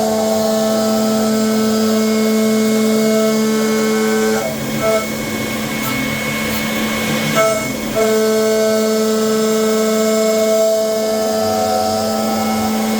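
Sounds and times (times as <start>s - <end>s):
router spindle cutting: 0.0s - 12.9s.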